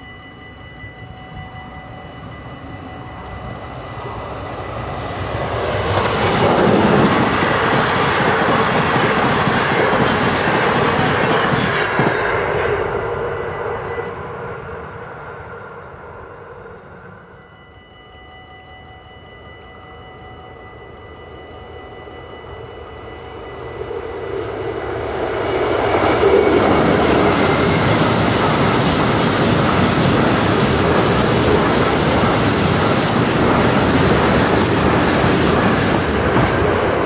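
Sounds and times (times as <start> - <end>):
train wheels rolling on rail: 0.0 - 17.4, 22.1 - 37.0.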